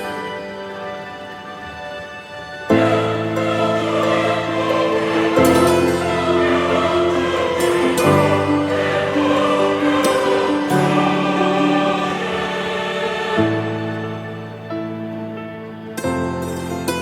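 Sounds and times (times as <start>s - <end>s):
choir singing held notes: 0.0s - 15.4s
sustained musical accompaniment: 0.0s - 17.0s.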